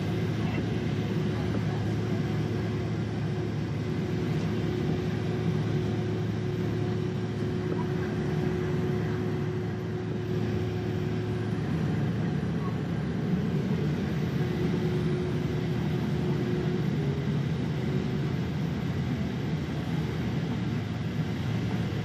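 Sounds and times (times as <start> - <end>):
jet engine cabin drone: 0.0 - 22.0
thin steady whine: 0.0 - 22.0.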